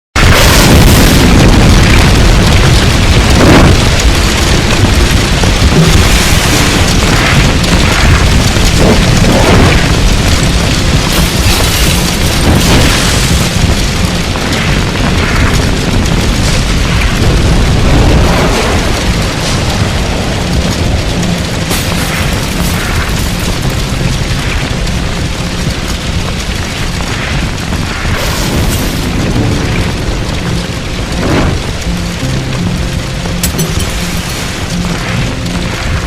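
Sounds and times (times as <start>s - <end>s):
deep rumbling booms and blasts: 0.1s - 36.0s
dense rumble: 0.1s - 36.0s.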